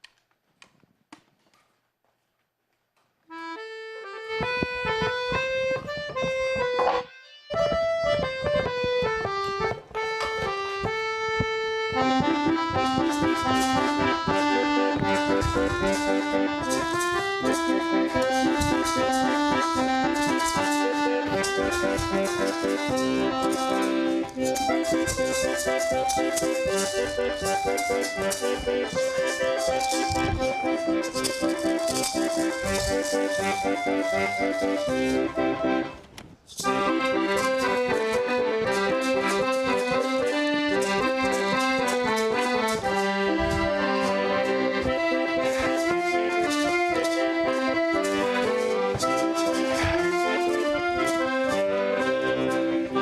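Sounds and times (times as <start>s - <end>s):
lively instrumental music: 3.2s - 53.0s.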